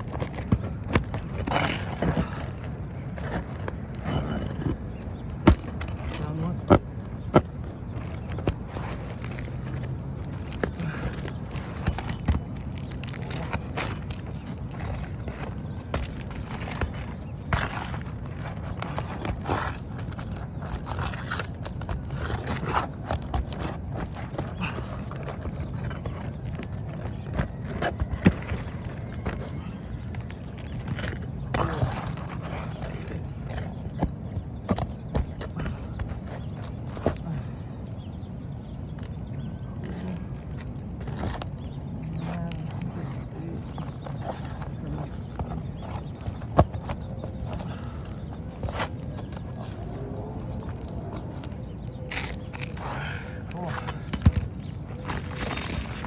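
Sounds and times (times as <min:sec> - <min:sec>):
tool scraping shingles: 0:00.0 - 0:37.5, 0:39.9 - 0:56.0.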